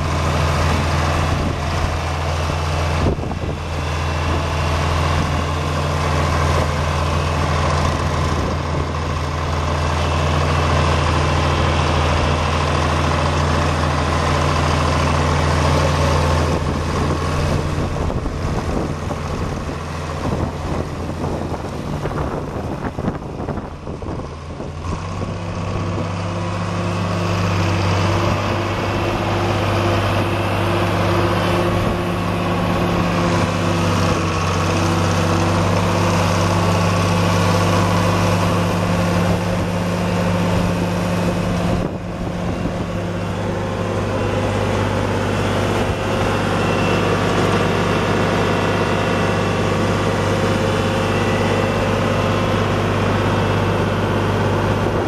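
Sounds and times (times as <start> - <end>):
diesel tractor engine idling: 0.0 - 55.0.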